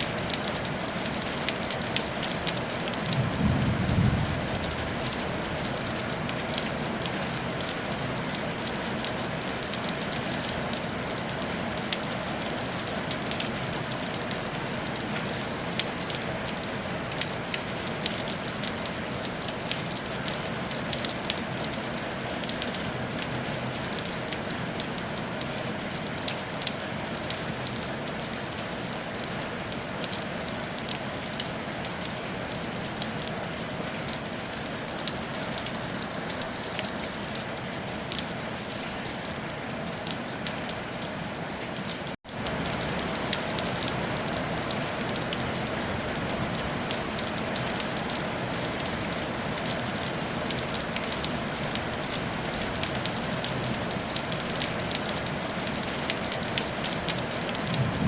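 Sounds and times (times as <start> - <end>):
rain on a tile roof: 0.0 - 58.0.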